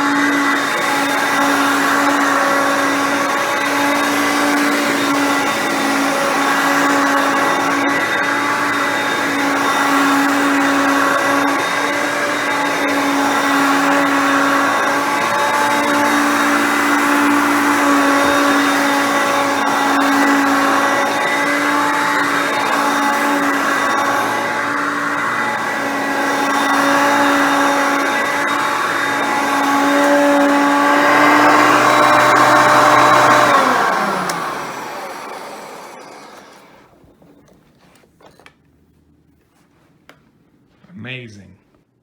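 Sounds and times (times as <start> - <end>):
vacuum cleaner running: 0.0 - 38.5.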